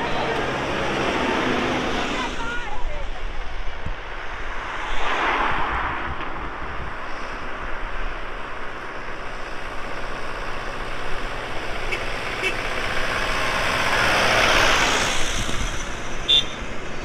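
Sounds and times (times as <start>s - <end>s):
tractor engines rumbling: 0.0s - 17.0s.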